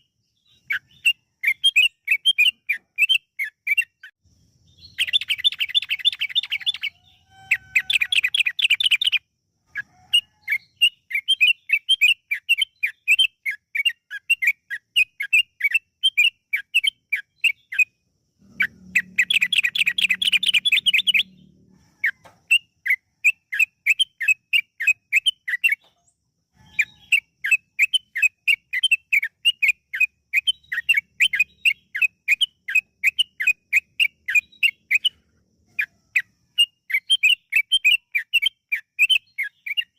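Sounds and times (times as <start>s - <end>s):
bulbul chattering song: 0.0s - 25.9s, 26.6s - 39.9s.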